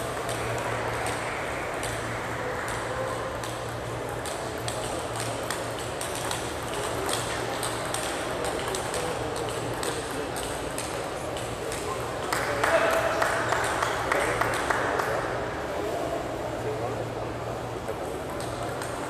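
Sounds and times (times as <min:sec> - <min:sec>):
murmur of voices: 0:00.0 - 0:19.0.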